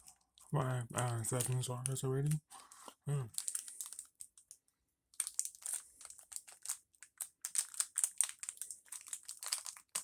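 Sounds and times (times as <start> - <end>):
wrapping crinkling: 0.0 - 10.0.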